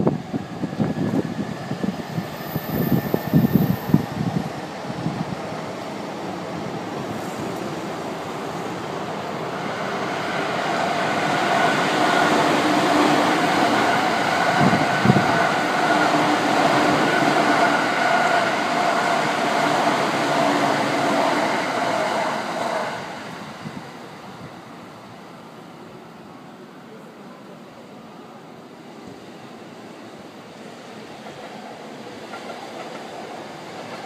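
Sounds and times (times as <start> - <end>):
electric train running past: 0.0 - 34.0.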